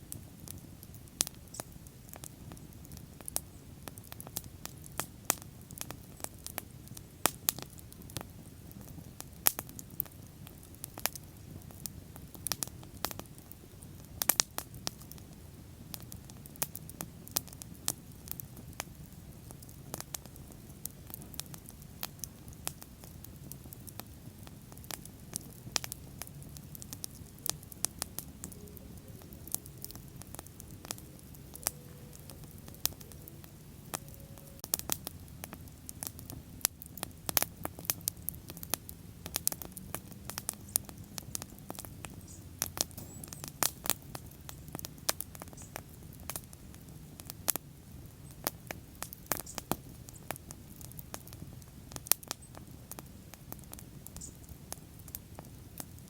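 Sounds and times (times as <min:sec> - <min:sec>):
bonfire crackling and popping: 0:00.0 - 0:56.0
low rumble of flames: 0:00.0 - 0:56.0.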